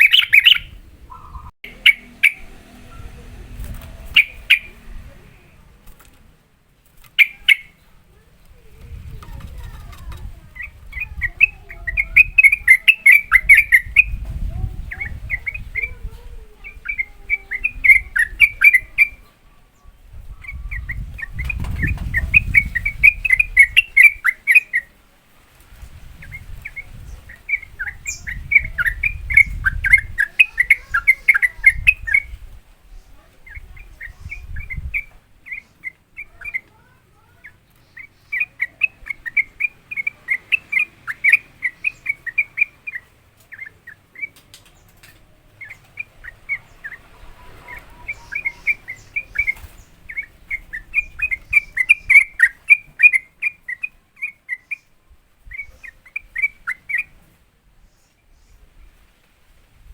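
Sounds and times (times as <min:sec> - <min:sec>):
bird chattering song: 0:00.0 - 0:06.1, 0:06.9 - 0:25.0, 0:26.0 - 0:59.0.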